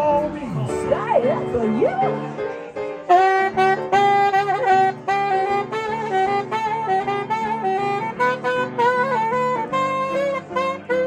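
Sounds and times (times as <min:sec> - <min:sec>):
jazz saxophone melody: 0:00.0 - 0:11.0
rhythmic chord accompaniment: 0:00.0 - 0:11.0.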